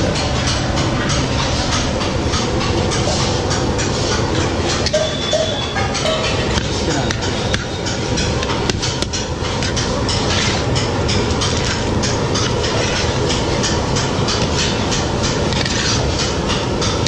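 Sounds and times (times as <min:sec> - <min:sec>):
machinery clattering: 0:00.0 - 0:17.0.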